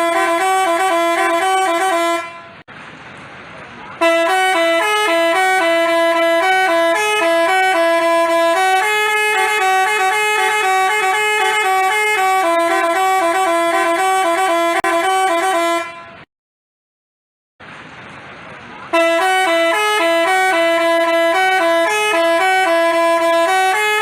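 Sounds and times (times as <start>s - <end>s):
multi-tone bus horn tune: 0.0s - 2.7s, 4.0s - 16.3s, 18.9s - 24.0s.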